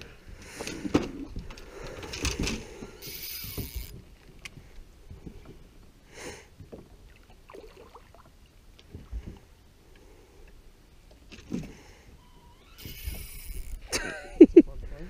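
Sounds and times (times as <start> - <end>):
water lapping against boat hull: 0.2 - 13.8.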